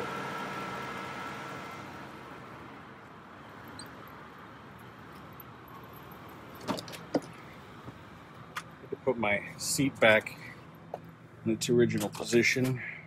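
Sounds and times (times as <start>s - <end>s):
faint engine hum: 0.0s - 13.0s.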